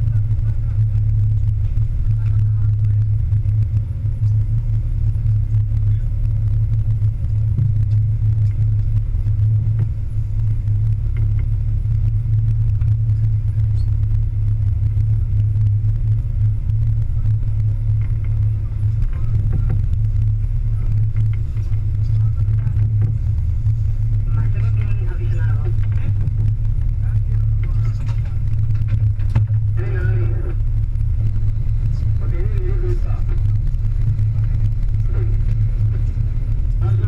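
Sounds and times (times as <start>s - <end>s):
boat engines droning: 0.0s - 37.0s.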